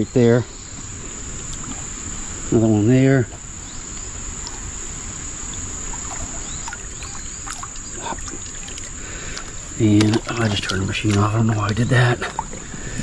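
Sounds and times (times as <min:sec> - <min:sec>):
insects droning: 0:00.0 - 0:13.0
low rumble of water: 0:00.8 - 0:13.0.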